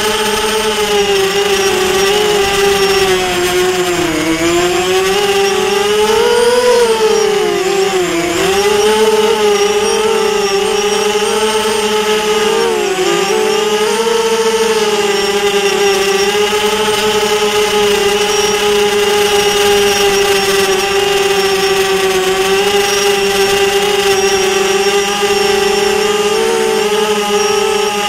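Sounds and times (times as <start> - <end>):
drone motors and propellers whining: 0.0 - 28.0.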